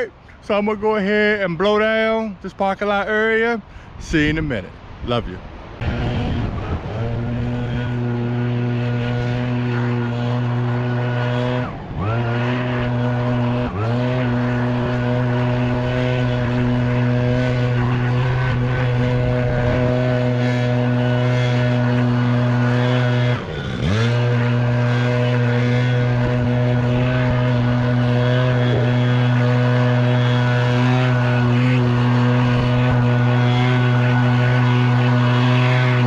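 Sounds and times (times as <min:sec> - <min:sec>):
leaf blower running: 0:05.8 - 0:36.0.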